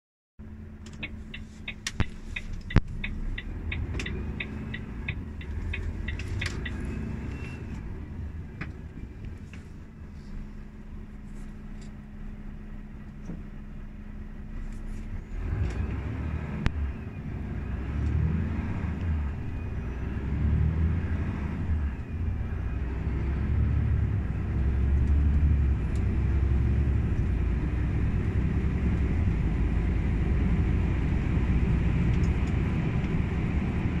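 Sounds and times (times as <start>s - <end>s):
truck diesel engine accelerating: 0.4s - 34.0s.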